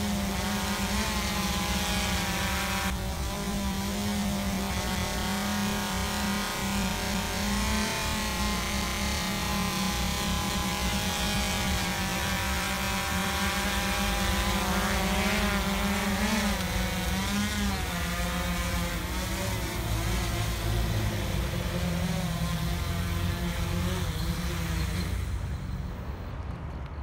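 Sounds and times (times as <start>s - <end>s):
drone propellers buzzing: 0.0s - 26.4s.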